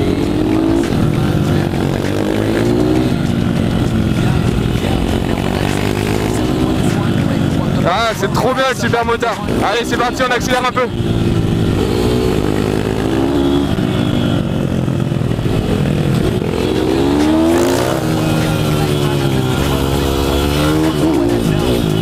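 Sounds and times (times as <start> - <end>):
pit bike engine revving: 0.0 - 22.0
second pit bike engine: 0.0 - 22.0.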